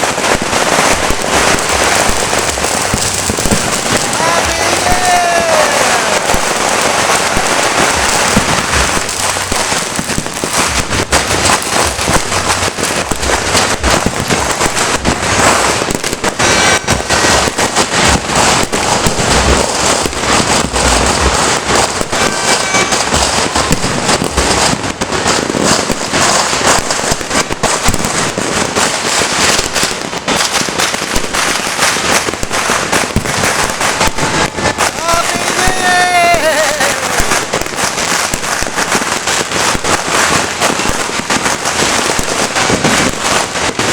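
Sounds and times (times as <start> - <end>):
firecrackers and fireworks crackling: 0.0 - 43.9.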